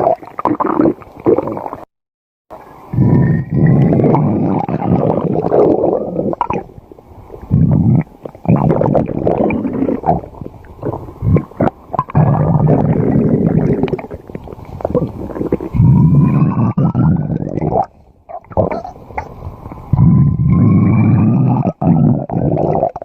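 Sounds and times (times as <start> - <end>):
stomach growling: 0.0 - 1.9, 2.9 - 6.7, 7.3 - 23.0.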